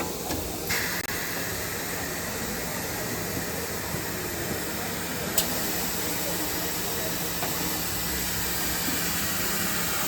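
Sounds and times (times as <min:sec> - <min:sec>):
busy exhibition hall hiss: 0:00.0 - 0:10.0.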